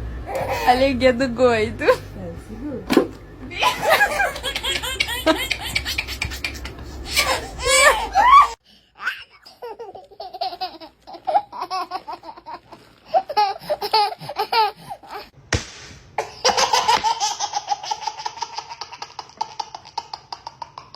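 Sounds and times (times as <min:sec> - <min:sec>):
baby laughing: 0:00.3 - 0:00.8, 0:03.6 - 0:15.3, 0:16.2 - 0:20.9.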